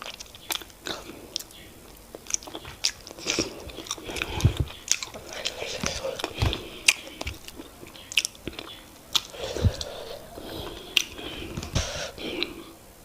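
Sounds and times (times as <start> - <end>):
mouth clicks and smacks: 0.0 - 12.7
wet chewing: 0.0 - 12.7.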